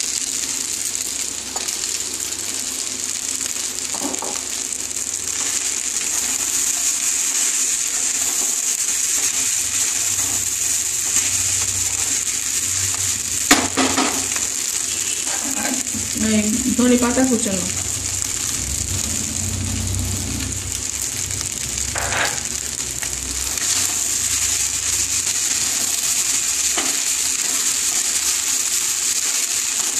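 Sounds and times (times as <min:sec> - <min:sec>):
food sizzling in a frying pan: 0:00.0 - 0:29.9.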